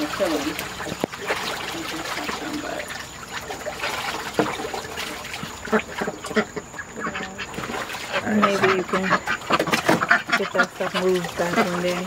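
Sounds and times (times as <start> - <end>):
birds pecking and dabbling: 0.0 - 12.0.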